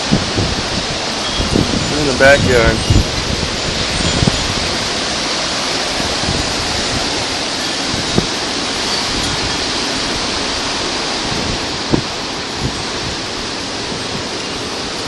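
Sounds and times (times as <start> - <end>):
storm winds rushing: 0.0 - 15.0.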